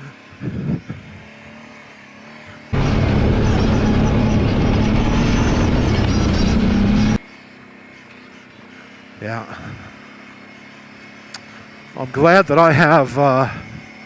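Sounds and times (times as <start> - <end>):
atv engine running: 0.0 - 14.0
wind and ride noise: 0.0 - 14.0.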